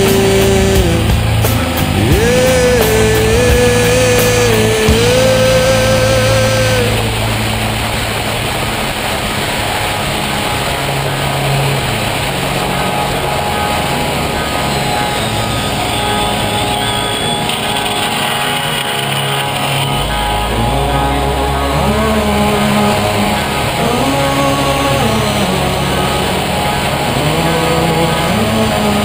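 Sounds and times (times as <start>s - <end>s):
motorcycle engine: 0.0s - 29.0s
rock song: 0.0s - 29.0s.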